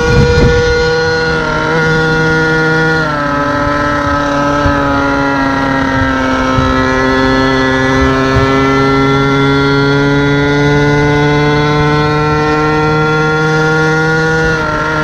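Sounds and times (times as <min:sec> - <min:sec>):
small two-stroke engine running: 0:00.0 - 0:15.0.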